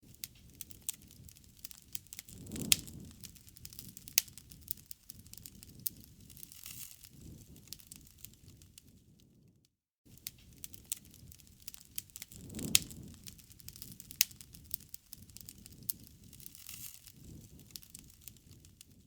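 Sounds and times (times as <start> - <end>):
wood fire crackling: 0.0 - 9.4, 10.1 - 19.0
low rumble of flames: 0.0 - 9.5, 10.1 - 19.0
sharp pops of fire: 0.1 - 9.1, 10.1 - 19.0.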